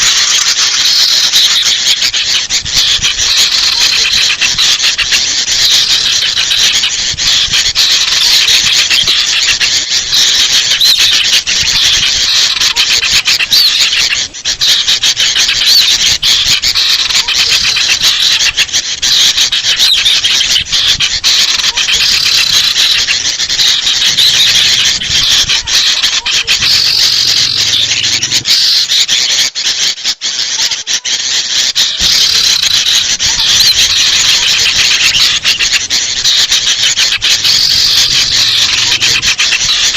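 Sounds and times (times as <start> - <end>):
birds chattering alarm calls: 0.0 - 39.9
high squeaky bird calls: 0.0 - 39.9.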